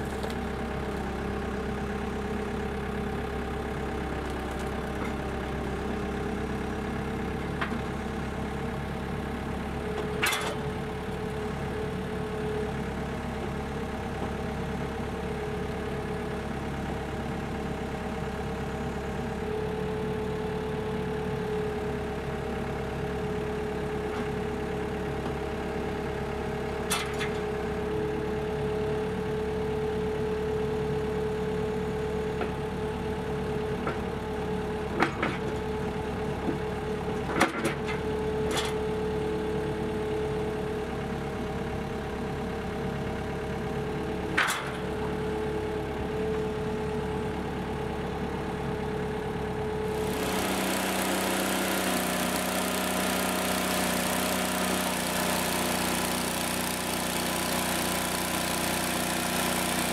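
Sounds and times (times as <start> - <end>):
diesel engine running: 0.0 - 59.9
sawmill engine: 0.0 - 59.9.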